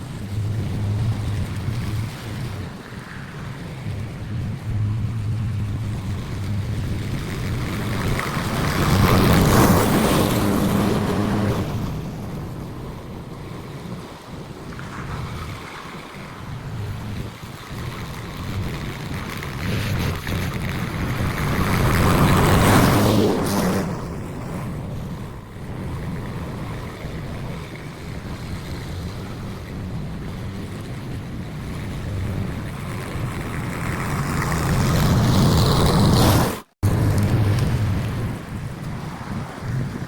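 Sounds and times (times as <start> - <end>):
rain: 0.0 - 12.2, 13.7 - 23.6, 24.4 - 40.0
wind noise on microphone: 0.0 - 40.0.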